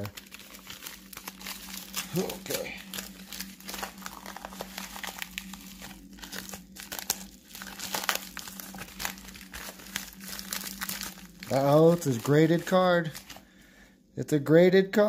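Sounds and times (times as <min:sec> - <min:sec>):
packaging crinkling and rustling: 0:00.0 - 0:13.6.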